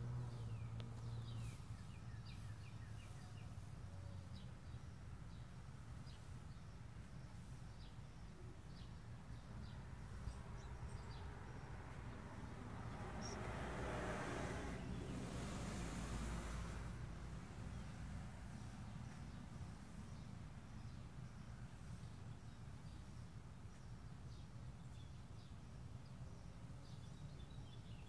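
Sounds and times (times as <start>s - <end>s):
small birds chirping: 0.0s - 13.9s, 14.7s - 28.0s.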